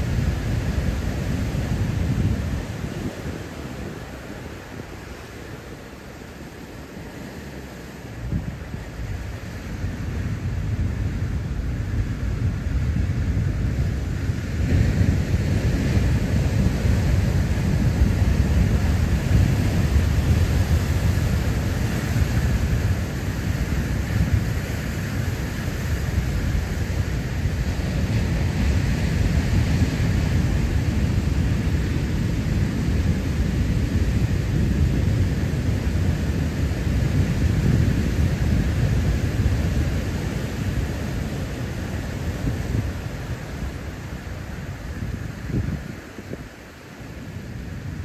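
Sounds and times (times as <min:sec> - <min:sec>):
ocean surf breaking on rocks: 0:00.0 - 0:48.0.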